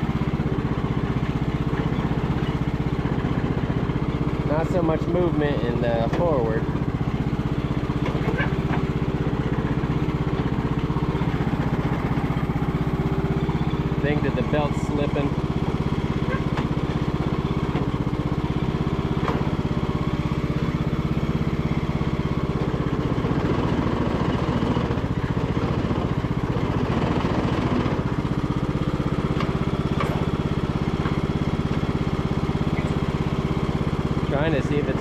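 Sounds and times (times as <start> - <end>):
riding mower engine running: 0.0 - 35.0.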